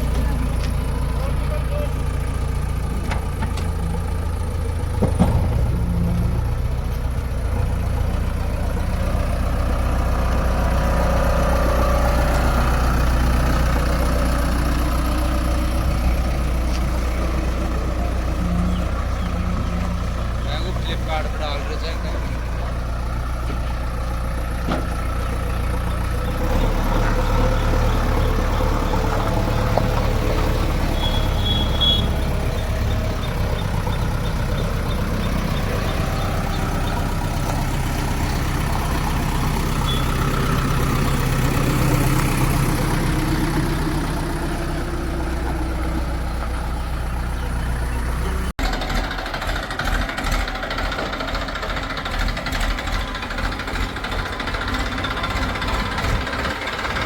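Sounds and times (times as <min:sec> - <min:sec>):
diesel engines of machinery: 0:00.0 - 0:57.0.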